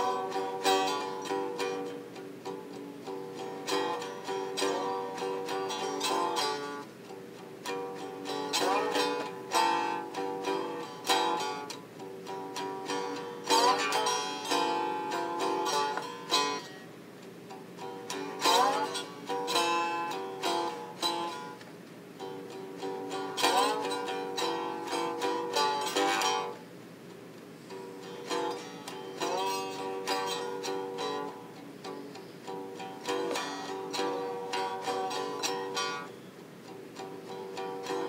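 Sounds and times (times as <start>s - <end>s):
slide guitar notes and chords: 0.0s - 38.0s.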